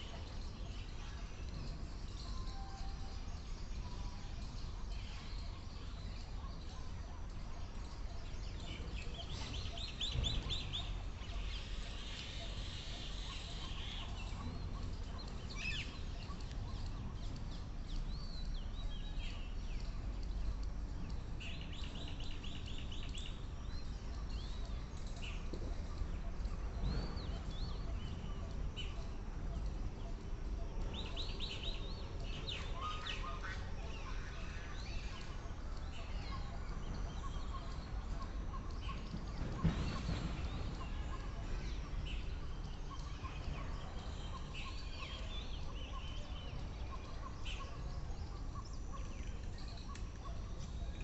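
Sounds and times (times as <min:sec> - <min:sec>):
birds calling: 0:07.6 - 0:51.0.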